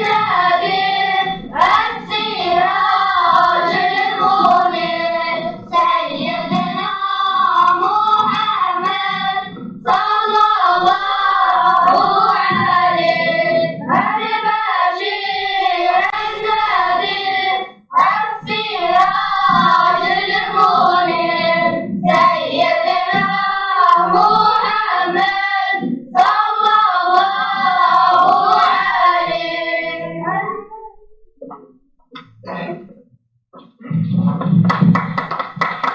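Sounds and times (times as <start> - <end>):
children singing a chant: 0.0 - 30.8.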